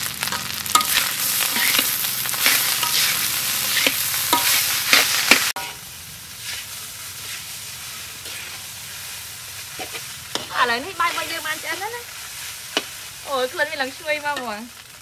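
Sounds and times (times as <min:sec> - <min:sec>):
fried rice sizzling: 0:00.0 - 0:15.0
metal spatula scraping wok: 0:00.1 - 0:14.6.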